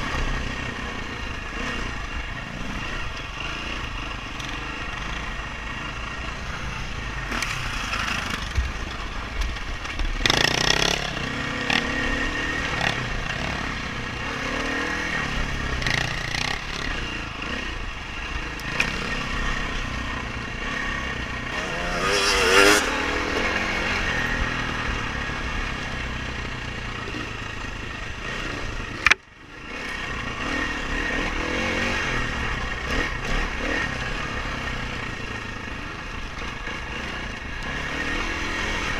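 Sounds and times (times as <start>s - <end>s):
dirt bike engine revving: 0.0s - 8.8s, 10.0s - 38.9s.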